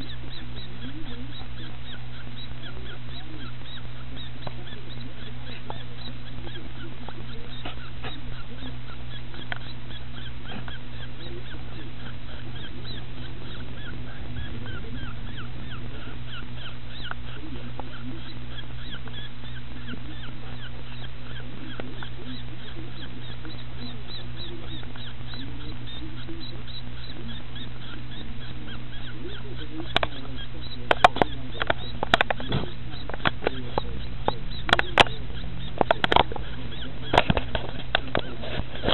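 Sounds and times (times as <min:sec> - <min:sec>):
baby animal squeaking: 0:00.0 - 0:38.9
low hum: 0:00.0 - 0:38.9.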